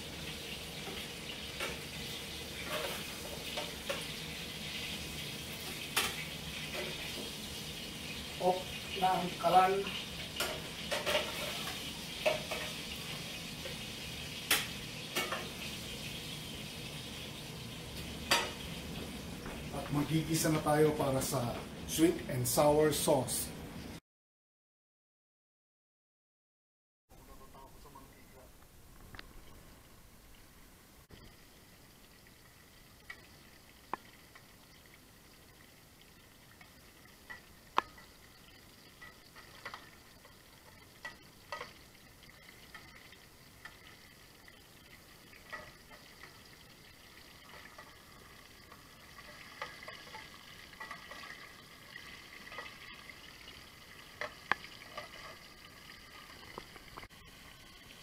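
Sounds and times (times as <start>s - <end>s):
oil sizzling in a frying pan: 0.0s - 24.0s, 29.3s - 58.0s.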